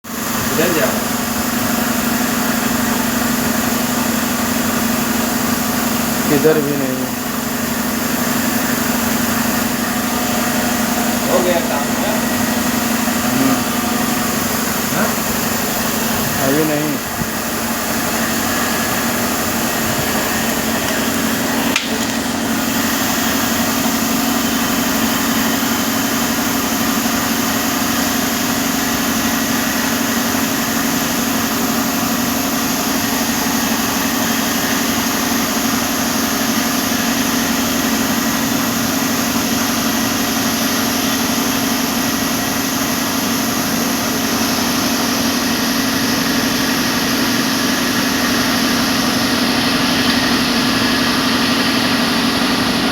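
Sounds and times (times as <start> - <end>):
cnc router running: 0.1 - 52.9.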